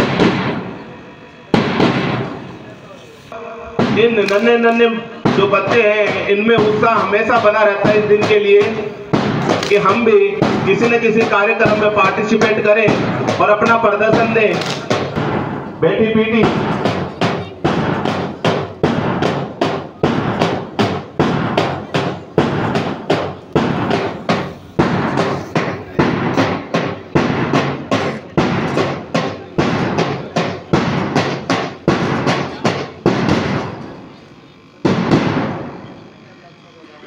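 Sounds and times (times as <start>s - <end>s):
drum beaten in steady rhythm: 3.8s - 34.1s.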